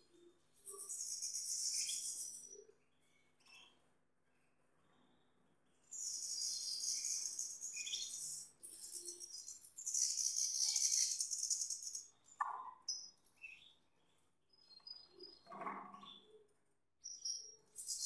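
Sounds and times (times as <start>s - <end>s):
canary chirps and calls: 0.0s - 4.6s, 5.8s - 18.0s.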